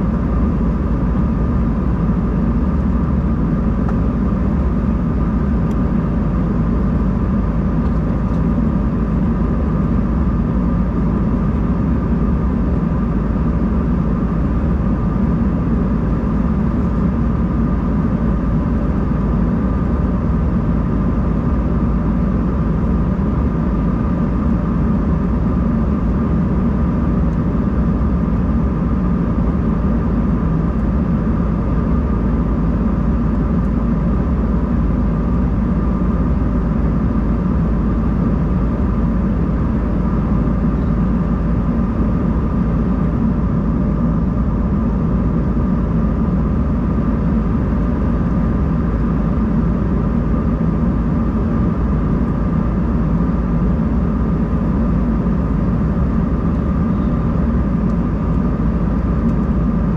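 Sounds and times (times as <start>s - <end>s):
airliner cabin engine drone: 0.0s - 59.9s
thin steady whine: 0.0s - 59.9s.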